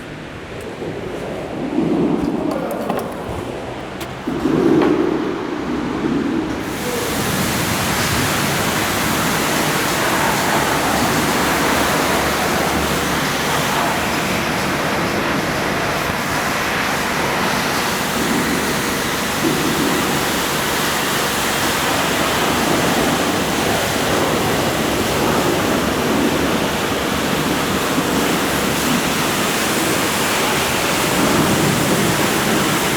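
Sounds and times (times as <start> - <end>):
water jet spraying hiss: 6.5 - 32.9.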